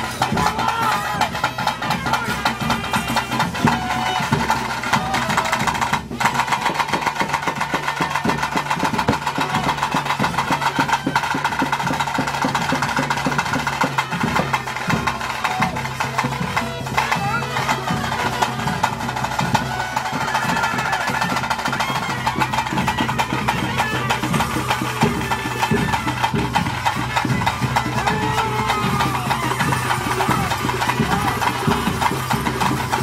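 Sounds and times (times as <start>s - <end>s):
rapid dense drumming: 0.0s - 33.0s.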